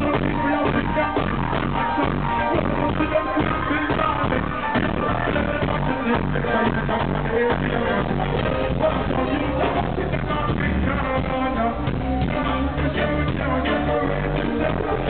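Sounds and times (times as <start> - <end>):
live reggae music: 0.0 - 15.0.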